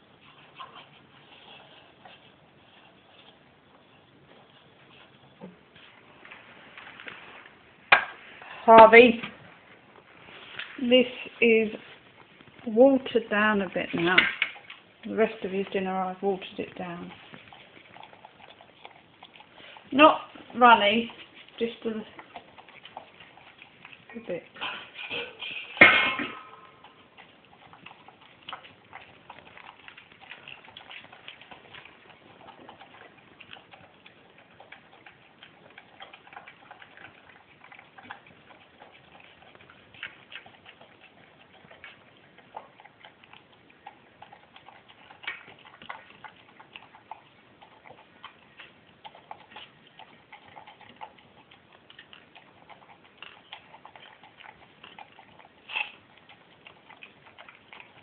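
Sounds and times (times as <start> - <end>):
dog eating from metal bowl: 0.0 - 58.0.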